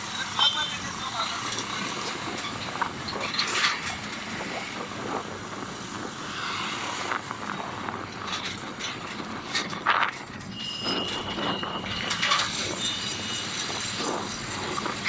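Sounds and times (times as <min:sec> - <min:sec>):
vehicle and road noise: 0:00.0 - 0:15.0.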